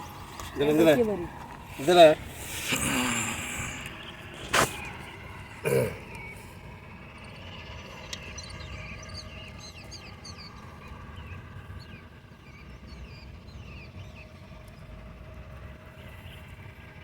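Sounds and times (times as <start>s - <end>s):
small birds chirping: 0.0s - 14.9s
low outdoor rumble: 0.0s - 17.0s.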